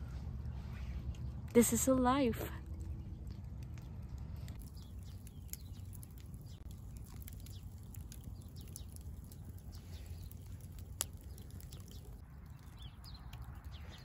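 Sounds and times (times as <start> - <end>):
campfire crackling and popping: 0.4 - 14.0.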